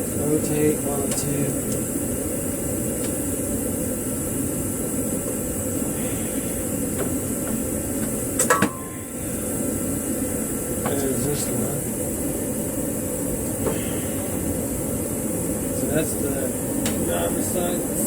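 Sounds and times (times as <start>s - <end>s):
steady low drone: 0.0s - 18.0s.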